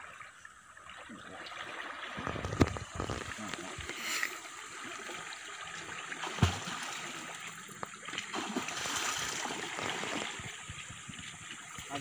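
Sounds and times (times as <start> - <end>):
river water running and splashing: 0.0 - 12.0.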